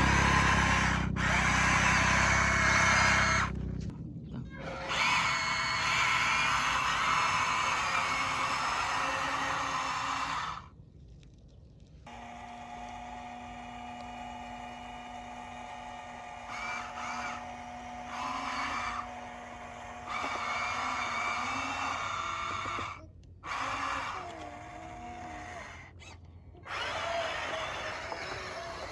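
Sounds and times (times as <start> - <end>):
small electric motors whirring: 0.0 - 3.9, 4.6 - 10.7, 12.1 - 28.9.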